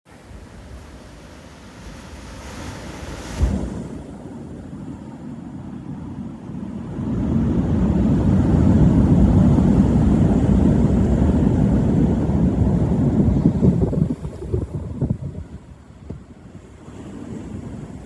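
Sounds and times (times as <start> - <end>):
wind buffeting microphone: 0.1 - 18.0.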